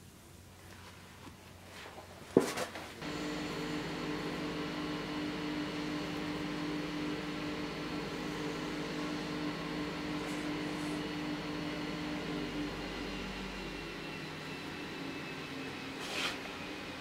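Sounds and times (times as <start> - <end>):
machine hum: 3.0 - 17.0.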